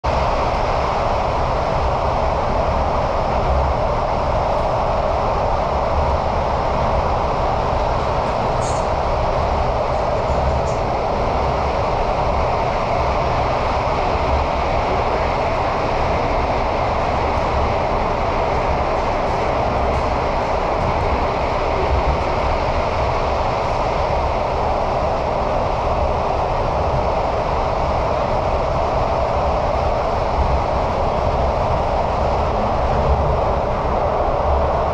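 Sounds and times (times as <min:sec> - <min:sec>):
subway train rumble inside carriage: 0:00.0 - 0:34.9.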